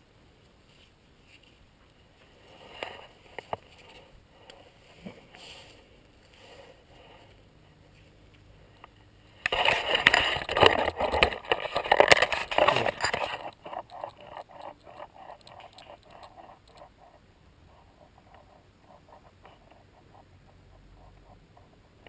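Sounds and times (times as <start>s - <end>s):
headlamp headband rustling and scraping: 0.5s - 20.2s.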